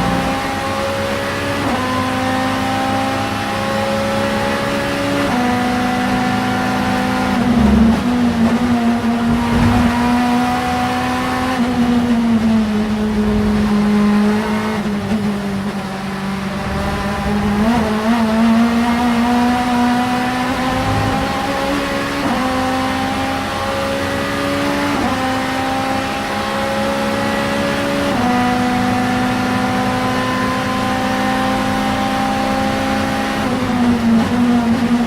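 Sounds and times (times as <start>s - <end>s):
race car engine at high revs: 0.0s - 35.0s.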